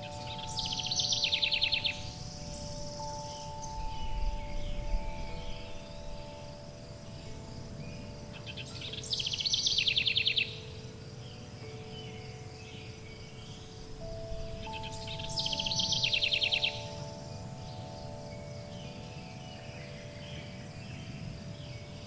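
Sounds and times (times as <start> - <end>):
forest songbirds calling: 0.0 - 22.0
soft long-held chime tones: 0.0 - 22.0.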